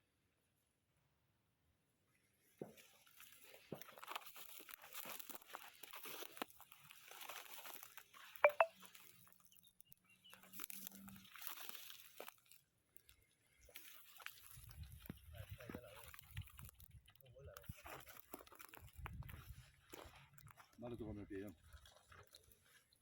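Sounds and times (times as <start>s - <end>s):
crunching through dry grass: 2.6s - 23.0s.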